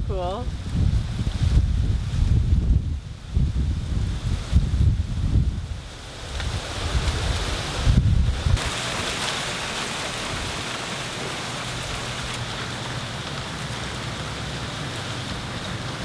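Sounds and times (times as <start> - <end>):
wind rustling through fronds: 0.0 - 16.0.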